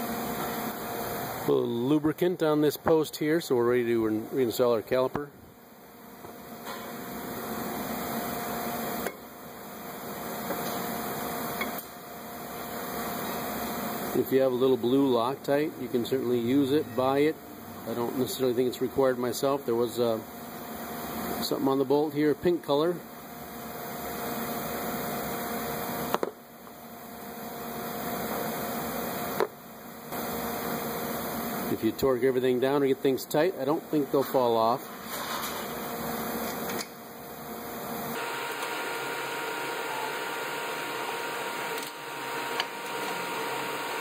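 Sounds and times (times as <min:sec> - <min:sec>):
garage background hiss: 0:00.0 - 0:44.0.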